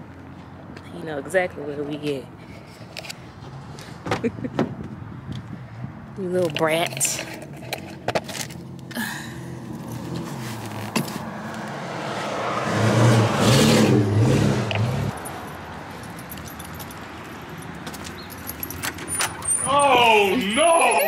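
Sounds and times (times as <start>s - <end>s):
passing motor vehicle: 0.0s - 21.0s.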